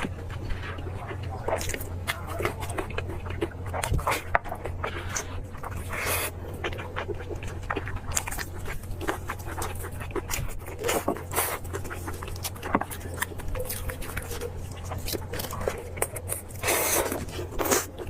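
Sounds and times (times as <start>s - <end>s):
chewing meat: 0.0s - 18.0s
low hum: 0.0s - 18.0s.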